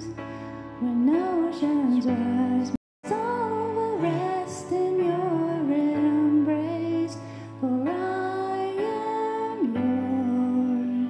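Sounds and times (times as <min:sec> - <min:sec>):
keyboard accompaniment: 0:00.0 - 0:11.0
woman singing into microphone: 0:00.8 - 0:11.0.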